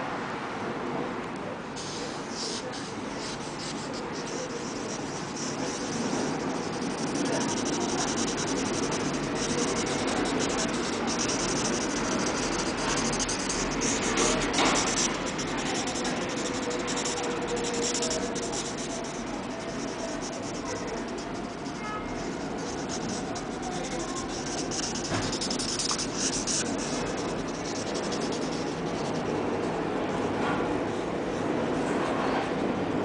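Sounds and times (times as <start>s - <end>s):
marker scribbling on paper: 1.8s - 30.5s.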